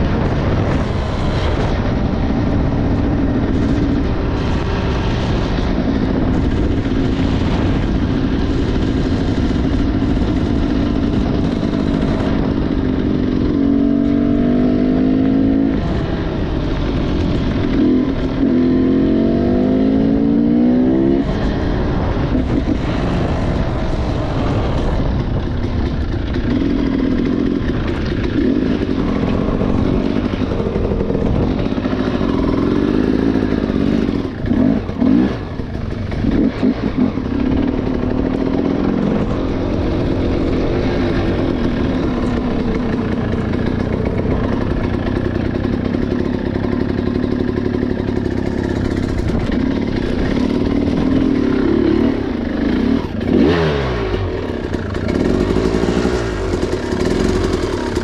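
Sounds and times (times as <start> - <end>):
motorcycle engine accelerating: 0.0 - 58.0
steady rushing noise: 0.0 - 58.0.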